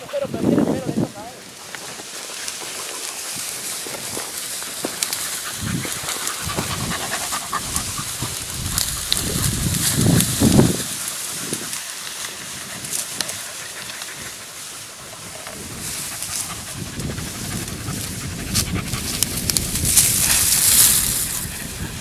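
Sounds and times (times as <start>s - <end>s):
dog panting: 2.3s - 22.0s.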